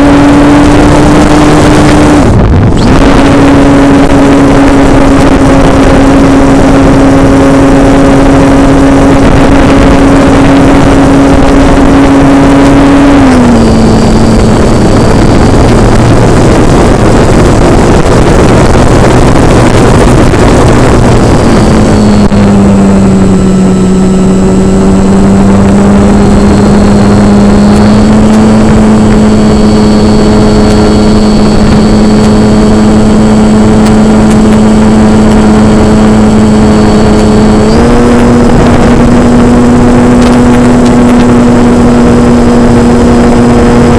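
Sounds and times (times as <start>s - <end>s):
model airplane propeller whine: 0.0s - 43.9s
wind rushing: 0.0s - 43.9s.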